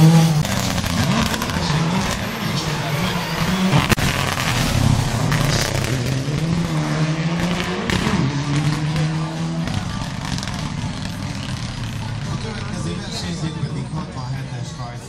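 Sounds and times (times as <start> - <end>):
rally car engine passing: 0.0 - 14.7.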